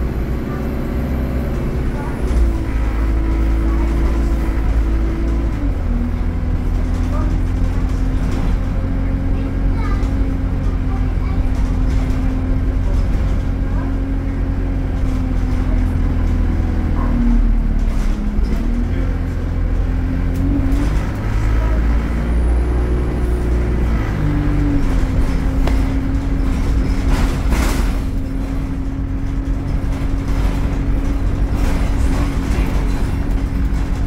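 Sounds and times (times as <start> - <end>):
bus diesel engine droning: 0.0 - 34.0
road noise: 0.0 - 34.0.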